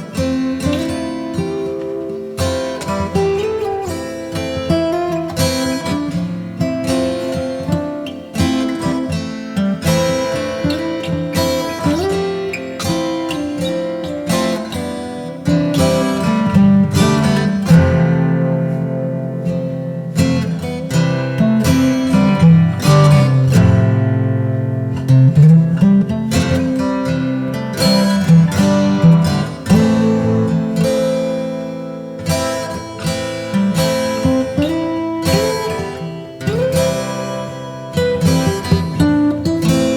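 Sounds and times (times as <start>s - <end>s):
acoustic guitar music: 0.0s - 39.9s.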